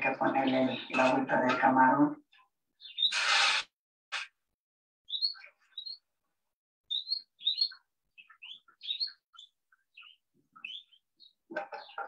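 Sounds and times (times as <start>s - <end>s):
small birds chirping: 0.0s - 3.6s, 5.0s - 12.0s.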